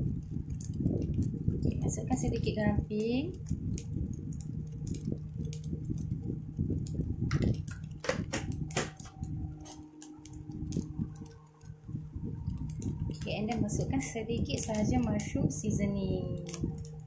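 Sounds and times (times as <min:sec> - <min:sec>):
light clicks and taps in a wok: 0:00.0 - 0:11.8, 0:12.4 - 0:17.0
steady low hum: 0:00.0 - 0:17.0.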